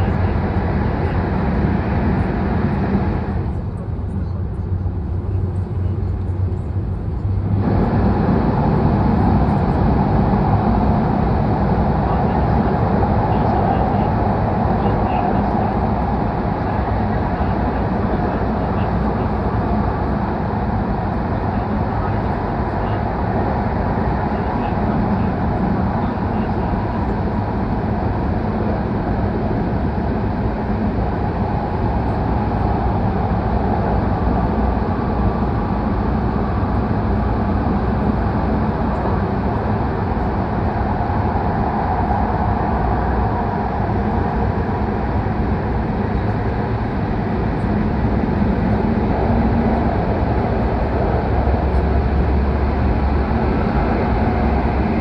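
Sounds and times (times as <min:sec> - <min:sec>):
train running noise inside car: 0:00.0 - 0:55.0.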